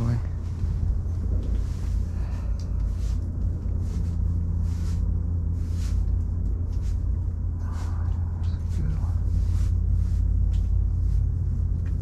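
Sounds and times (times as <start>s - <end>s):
faint rustles: 0.0s - 12.0s
low rumble: 0.0s - 12.0s.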